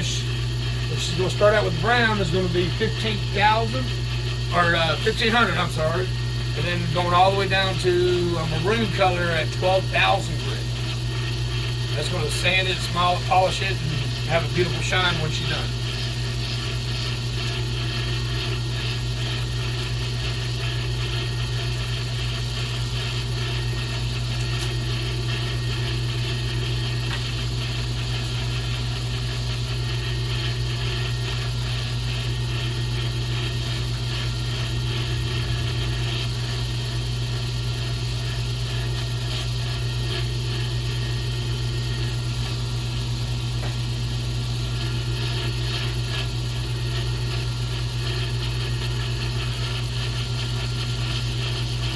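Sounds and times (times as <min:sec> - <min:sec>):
wood lathe humming: 0:00.0 - 0:51.9.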